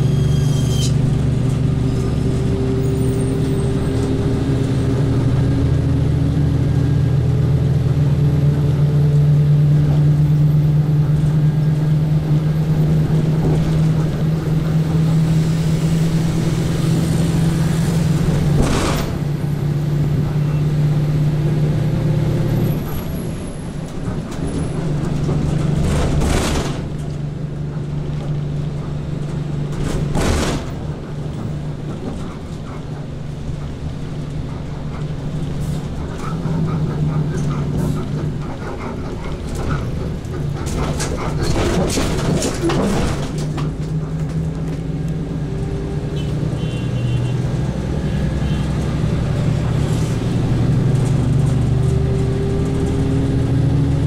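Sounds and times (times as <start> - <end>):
passing traffic whooshes: 0.0 - 54.0
truck engine from inside: 0.0 - 54.0.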